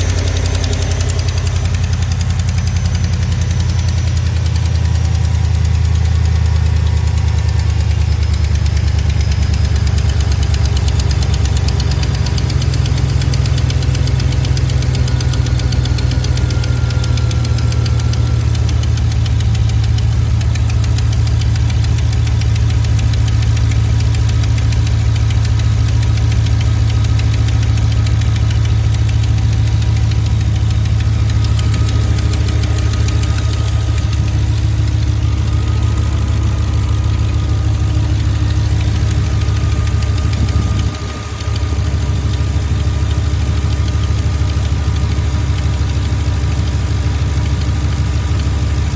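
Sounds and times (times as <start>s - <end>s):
engine running: 0.0s - 48.9s
rapid even ticking: 0.0s - 48.9s.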